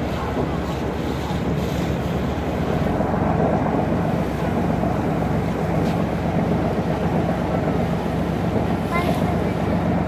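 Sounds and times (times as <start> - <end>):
boat engine running: 0.0 - 10.0
water wash: 0.0 - 10.0.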